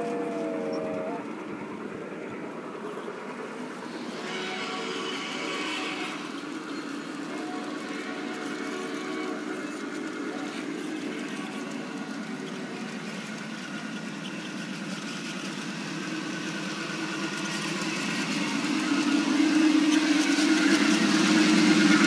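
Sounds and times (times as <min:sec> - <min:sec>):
train engine approaching: 0:00.0 - 0:22.0.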